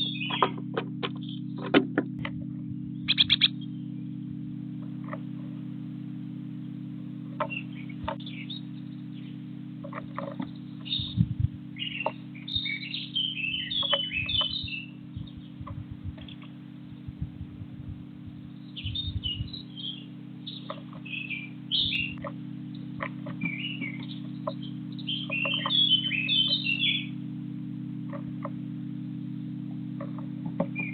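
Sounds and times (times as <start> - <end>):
low hum: 0.0 - 30.9
small birds chirping: 0.0 - 30.9.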